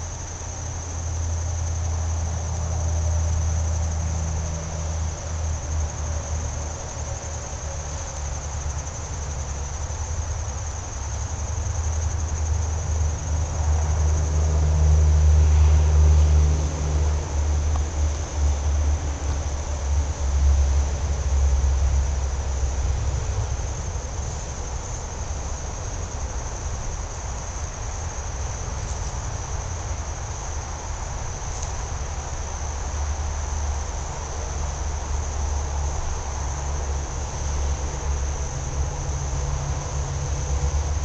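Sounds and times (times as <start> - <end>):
continuous low rumble: 0.0 - 41.0
high-pitched insect chorus: 0.0 - 41.0.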